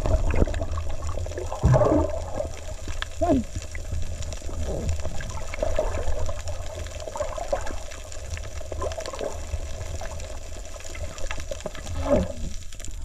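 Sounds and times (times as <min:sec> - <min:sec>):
water swishing: 0:00.0 - 0:12.7
low underwater rumble: 0:00.0 - 0:13.0
small clicks and crackles: 0:00.0 - 0:13.0.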